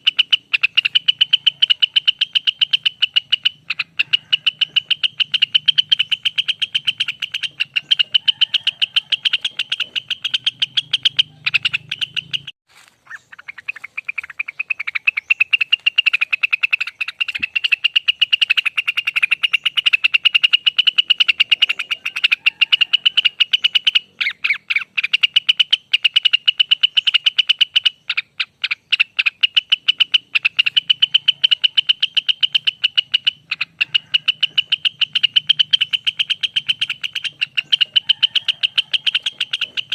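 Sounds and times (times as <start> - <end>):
bird singing rolling trill: 0.0 - 39.9.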